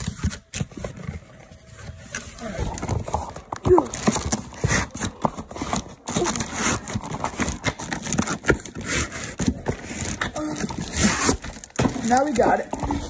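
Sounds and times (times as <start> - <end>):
clicks knocks and scrapes: 0.0 - 13.0
plastic wrap and cardboard rustling: 0.0 - 13.0.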